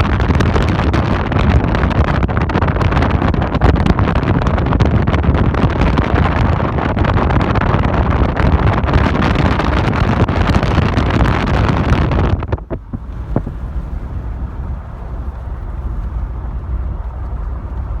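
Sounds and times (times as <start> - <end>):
moving vehicle rumble: 0.0 - 18.0
wind buffeting microphone: 0.0 - 18.0.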